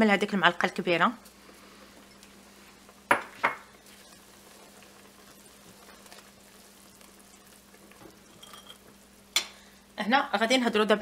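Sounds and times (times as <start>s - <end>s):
faint simmer: 0.0s - 11.0s.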